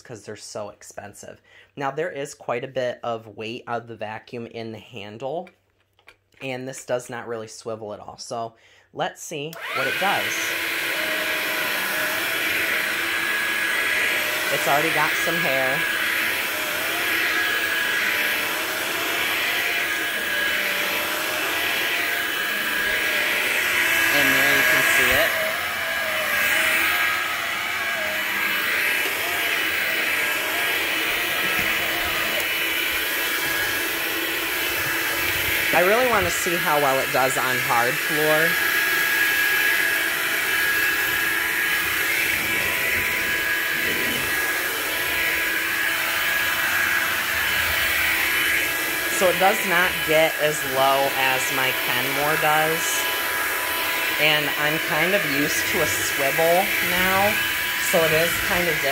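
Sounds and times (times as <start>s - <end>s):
vacuum cleaner motor whine: 9.5s - 58.9s.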